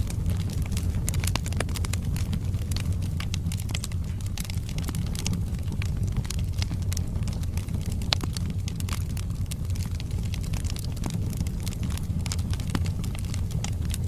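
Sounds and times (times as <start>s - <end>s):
fire roaring: 0.0s - 14.0s
logs crackling and popping: 0.0s - 14.0s.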